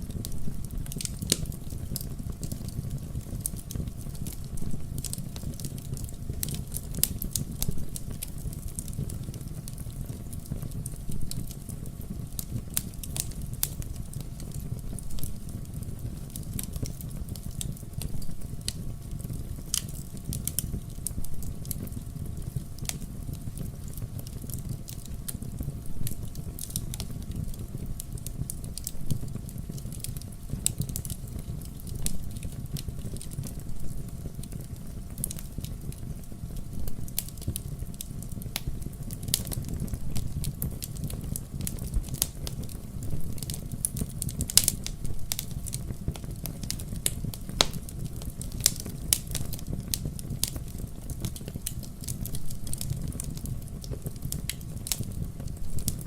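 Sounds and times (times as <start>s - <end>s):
fire crackling and popping: 0.0s - 56.0s
fire flames rumbling: 0.0s - 56.0s.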